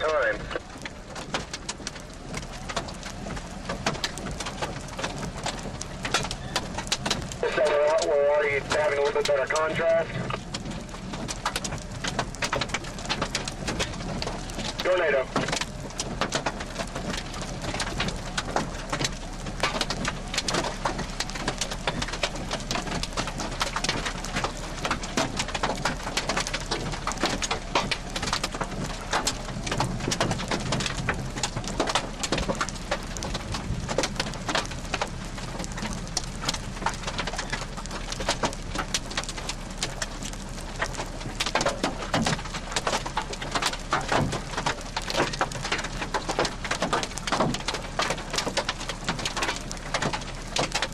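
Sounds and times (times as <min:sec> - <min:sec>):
rain on a hard surface: 0:00.0 - 0:50.9.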